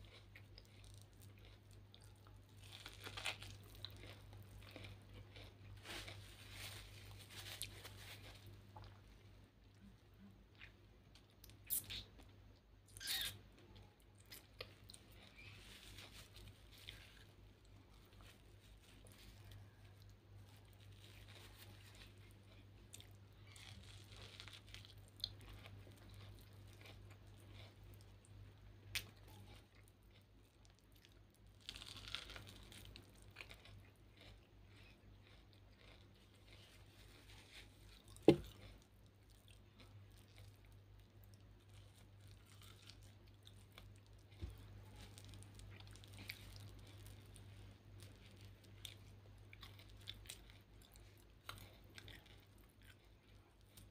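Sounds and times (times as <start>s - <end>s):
chewing corn kernels: 0.0s - 12.4s, 13.0s - 53.9s.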